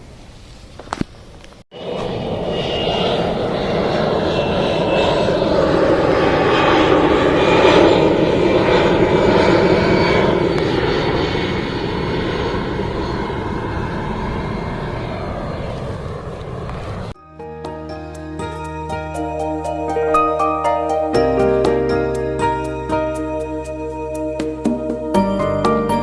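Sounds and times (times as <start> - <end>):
airplane engine noise: 0.8 - 17.2, 17.8 - 26.0
high whine: 1.7 - 26.0.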